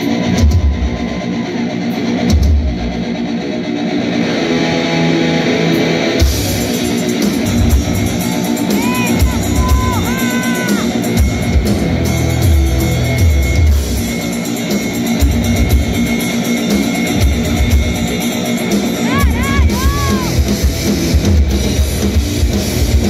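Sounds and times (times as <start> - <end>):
drum kit: 0.0 - 4.6, 5.6 - 23.0
distorted electric guitars: 0.0 - 23.0
heavy metal band playing: 0.0 - 23.0.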